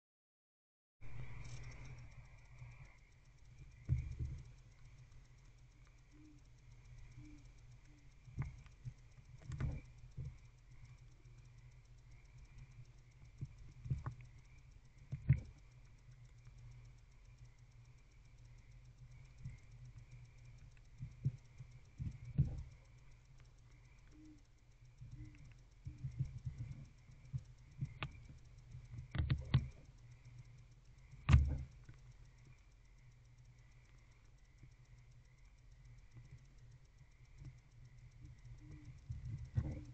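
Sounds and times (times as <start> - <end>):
faint high whine: 1.0 - 39.9
low hum: 1.0 - 39.9.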